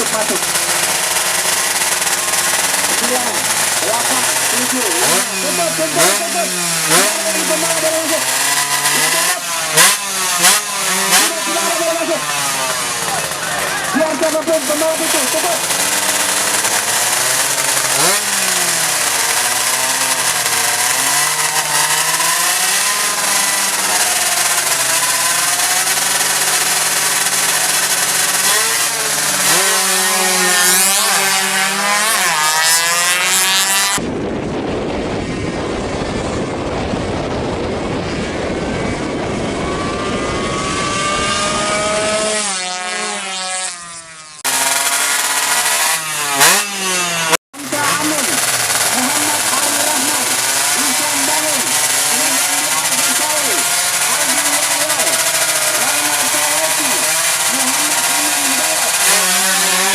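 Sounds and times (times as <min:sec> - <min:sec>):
harsh rough engine noise: 0:00.0 - 0:59.9
two-stroke engines revving: 0:00.0 - 0:59.9.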